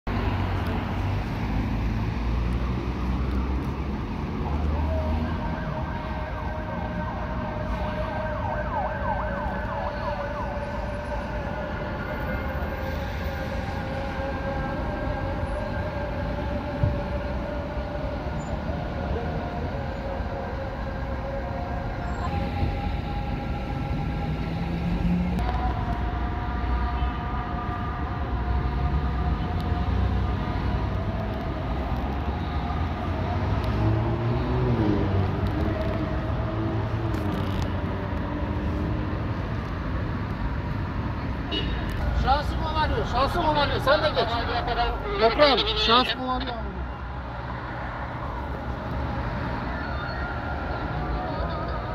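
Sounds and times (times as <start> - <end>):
street traffic rumble: 0.0 - 51.9.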